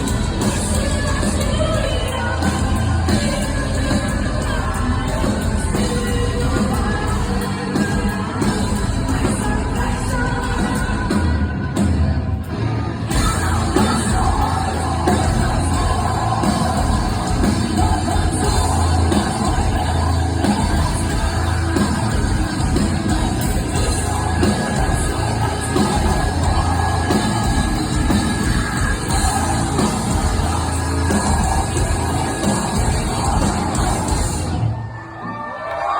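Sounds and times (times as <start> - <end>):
heavy metal band playing live: 0.0 - 35.0.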